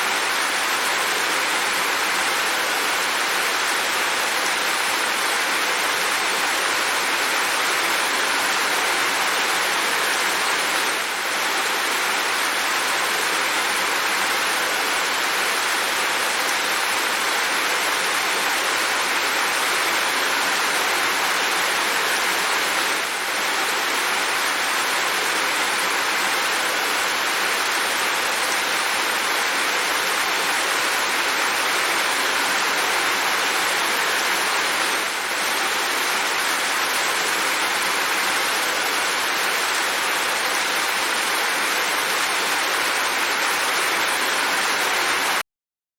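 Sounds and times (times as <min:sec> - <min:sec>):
steady rain: 0:00.0 - 0:45.4.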